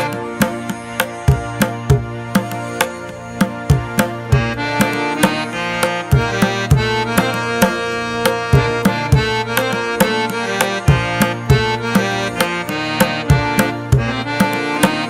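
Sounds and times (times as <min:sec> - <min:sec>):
hand drum beat: 0:00.0 - 0:15.0
held melody: 0:00.0 - 0:15.0.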